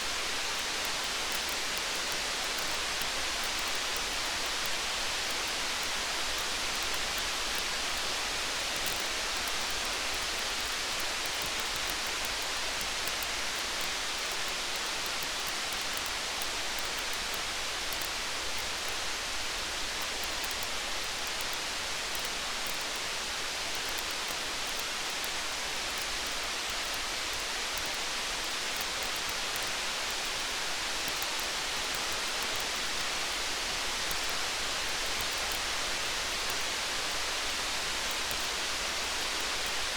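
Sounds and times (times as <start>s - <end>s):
faint scattered ticks: 0.0s - 39.9s
rain hiss: 0.0s - 39.9s.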